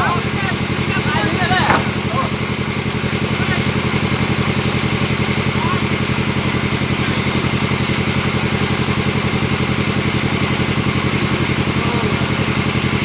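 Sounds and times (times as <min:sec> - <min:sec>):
sawmill engine chugging: 0:00.0 - 0:13.0.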